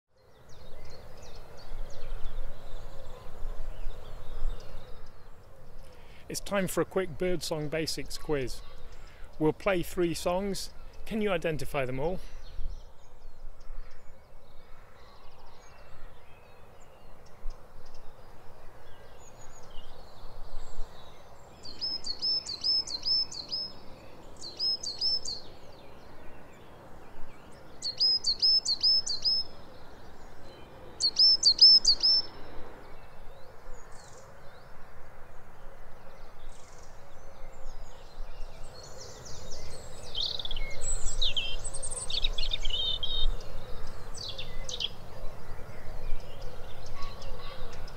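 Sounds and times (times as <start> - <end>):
bird song of high notes: 0.1 - 47.9.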